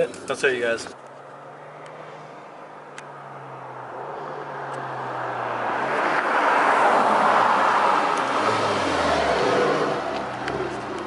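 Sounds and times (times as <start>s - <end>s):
car engine approaching: 1.0s - 11.0s.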